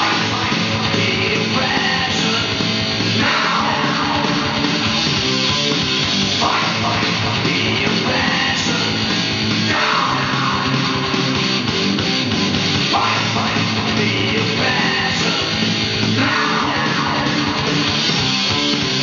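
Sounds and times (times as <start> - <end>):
heavy rock music with electric guitar: 0.0 - 19.0.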